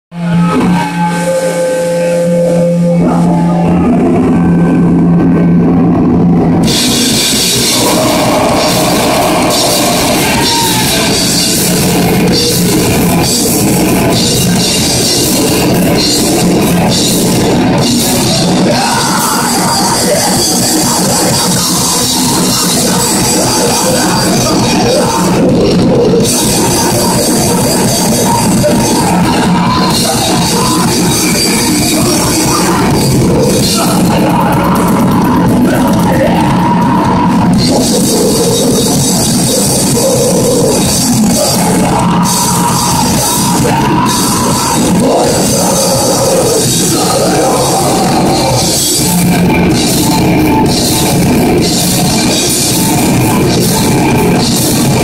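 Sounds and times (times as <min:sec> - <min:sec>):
distorted guitars and bass: 0:00.0 - 0:55.0
metal band playing: 0:00.1 - 0:55.0
fast dense drumming and cymbals: 0:00.2 - 0:55.0.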